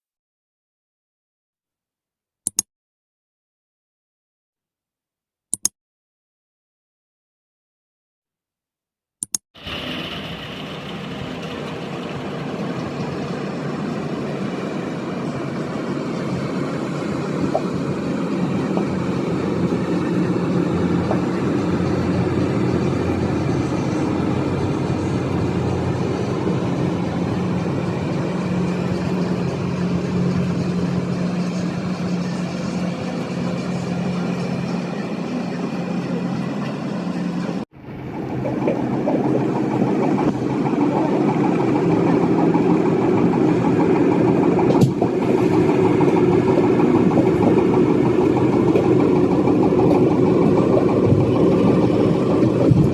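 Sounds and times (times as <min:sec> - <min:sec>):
boat engine droning: 0:09.6 - 0:52.9.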